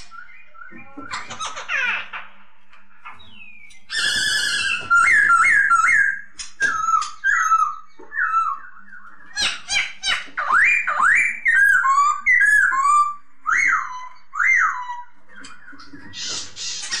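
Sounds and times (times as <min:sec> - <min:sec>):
bird singing whistled phrases: 0:03.3 - 0:17.0.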